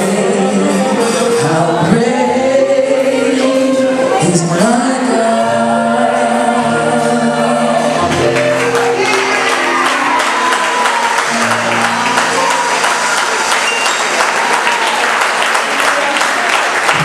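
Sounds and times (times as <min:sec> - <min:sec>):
gospel singing: 0:00.0 - 0:16.9.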